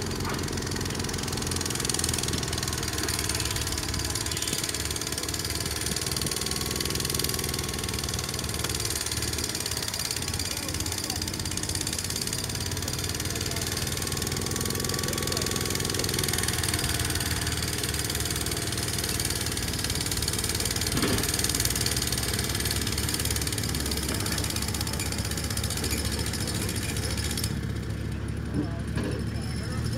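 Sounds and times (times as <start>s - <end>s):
tractor engine under heavy load: 0.0s - 29.9s.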